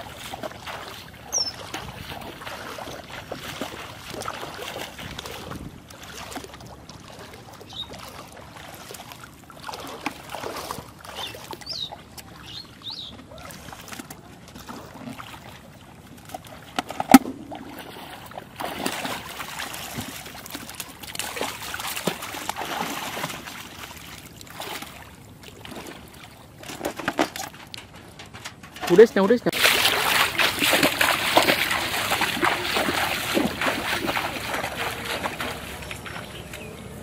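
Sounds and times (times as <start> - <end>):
water sloshing and splashing: 0.0 - 37.0.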